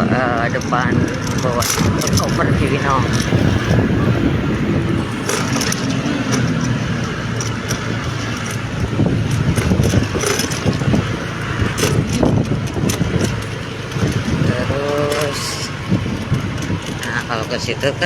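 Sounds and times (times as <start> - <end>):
road traffic rumble: 0.0 - 18.0
short clicks and rattles: 0.2 - 18.0.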